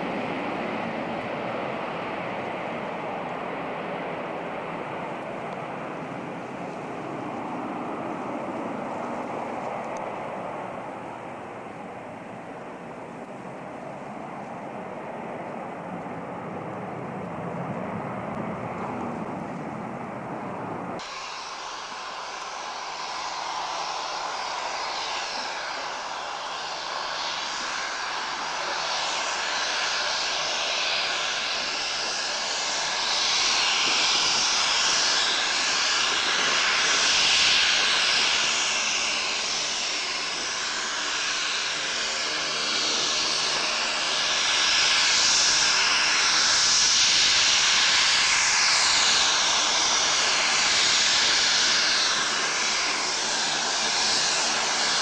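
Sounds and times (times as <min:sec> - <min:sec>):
turboprop aircraft taxiing: 0:00.0 - 0:55.0.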